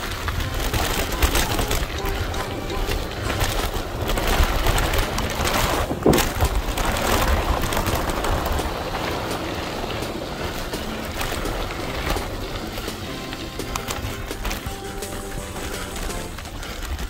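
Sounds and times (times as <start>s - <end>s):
bicycle tyres rumbling on gravel: 0.0s - 17.0s
sharp clatter: 0.0s - 17.0s
wind buffeting microphone: 0.0s - 17.0s.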